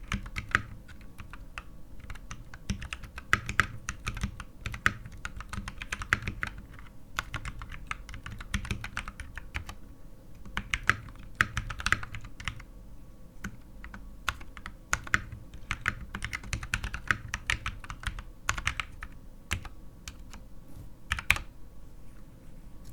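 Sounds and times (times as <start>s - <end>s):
mechanical keyboard typing: 0.0s - 9.8s, 10.4s - 12.7s, 13.4s - 20.4s, 21.1s - 21.5s.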